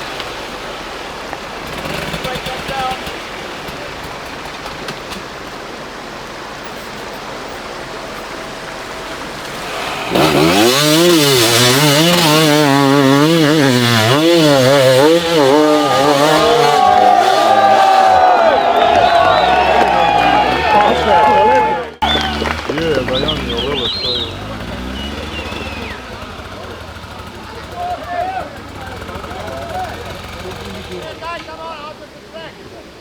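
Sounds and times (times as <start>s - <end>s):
dirt bike engine revving: 0.0s - 5.4s, 9.2s - 32.0s.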